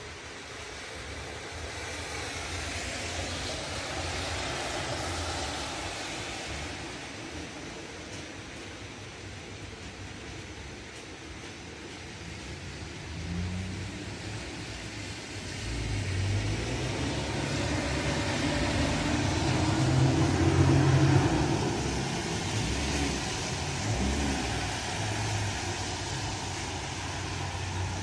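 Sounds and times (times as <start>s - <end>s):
car tyres swishing on wet street: 0.0s - 28.0s
rain hiss: 0.0s - 28.0s.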